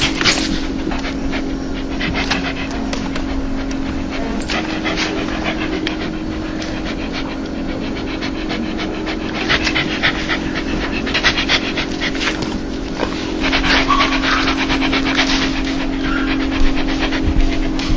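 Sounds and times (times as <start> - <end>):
dog panting: 0.0 - 17.9
low hum: 0.0 - 17.9.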